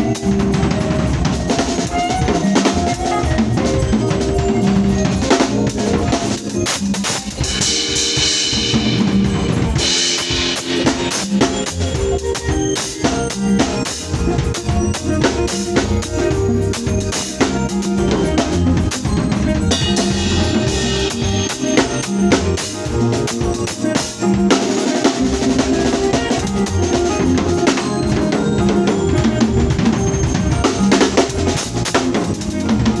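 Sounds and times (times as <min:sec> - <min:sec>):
band playing: 0:00.0 - 0:33.0
drum kit beat: 0:00.0 - 0:33.0
sustained bass: 0:00.0 - 0:33.0.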